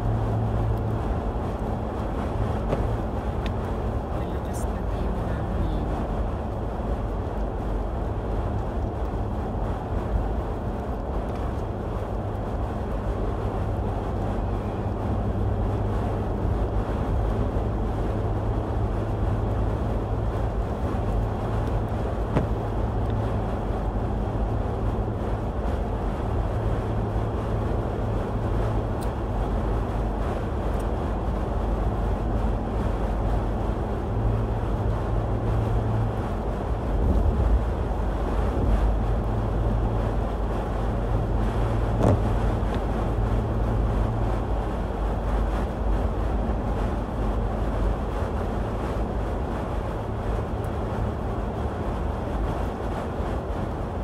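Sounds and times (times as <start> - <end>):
in-cabin road noise: 0.0 - 54.0
steady low hum: 0.0 - 54.0.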